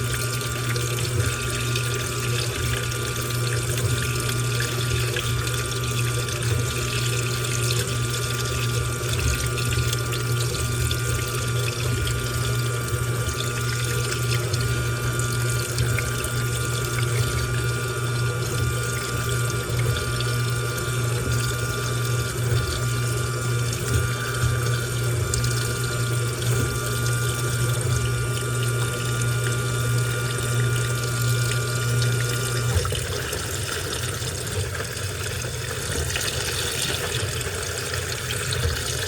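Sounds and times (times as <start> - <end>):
washing machine motor hum and whine: 0.0 - 39.0.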